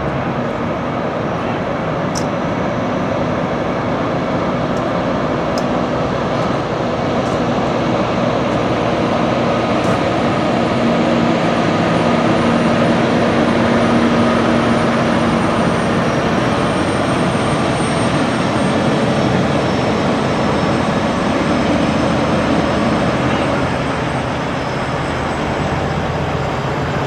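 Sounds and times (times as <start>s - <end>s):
truck diesel engine passing: 0.0s - 27.0s.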